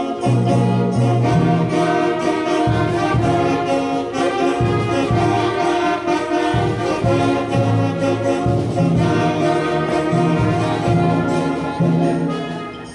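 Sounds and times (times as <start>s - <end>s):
wind band playing: 0.0s - 12.9s.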